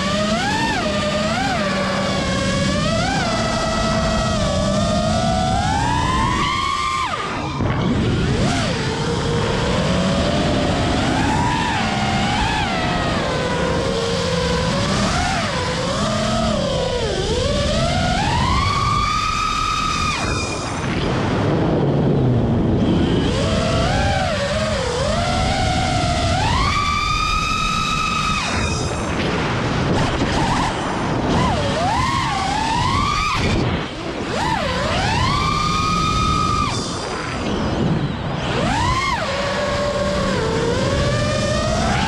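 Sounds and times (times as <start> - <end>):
drone motors whining: 0.0 - 42.0
wind on microphone: 0.0 - 42.0.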